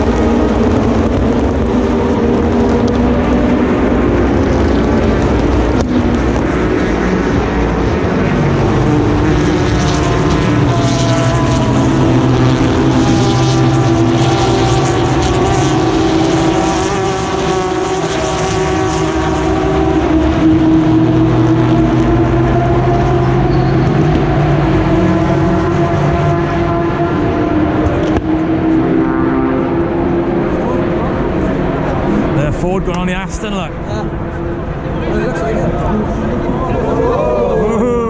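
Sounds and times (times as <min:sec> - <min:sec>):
race cars passing close by: 0:00.0 - 0:38.0.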